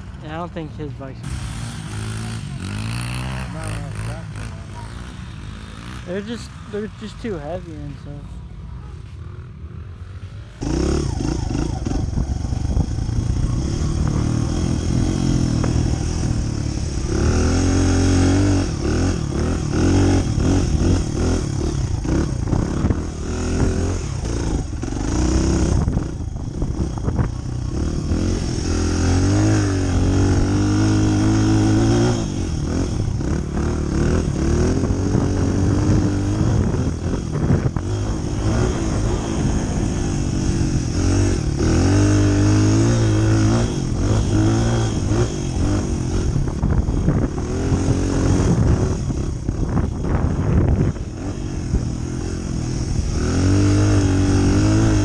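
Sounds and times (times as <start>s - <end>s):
dirt bike engine revving: 0.0s - 8.0s, 9.2s - 55.0s.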